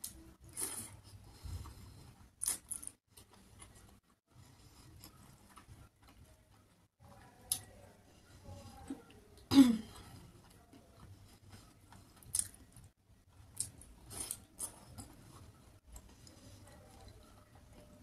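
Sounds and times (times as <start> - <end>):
wet chewing: 0.1 - 18.0.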